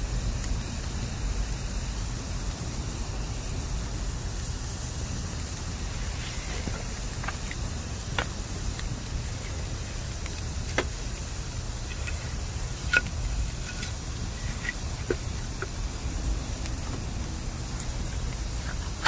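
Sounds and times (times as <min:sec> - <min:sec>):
fire rumbling: 0:00.0 - 0:19.0
bamboo crackling and popping: 0:00.2 - 0:19.0.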